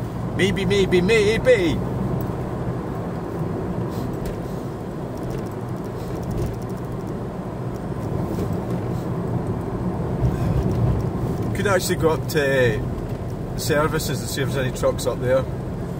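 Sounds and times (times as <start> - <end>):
car engine and tyre rumble: 0.0 - 15.9.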